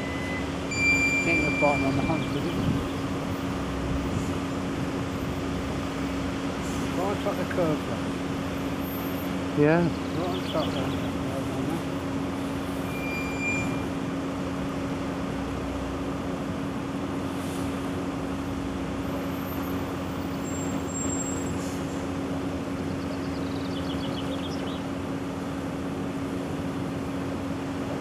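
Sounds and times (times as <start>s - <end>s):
lorry diesel engine idling low: 0.0s - 28.0s.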